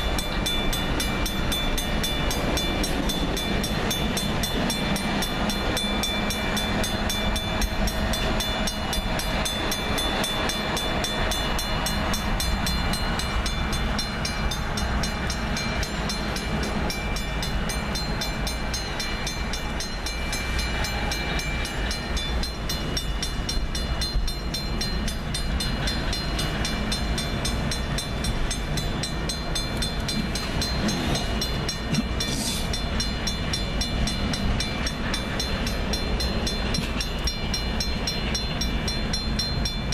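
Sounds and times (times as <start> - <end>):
crossing bell ringing: 0.0 - 39.9
freight train rumbling past: 0.0 - 39.9.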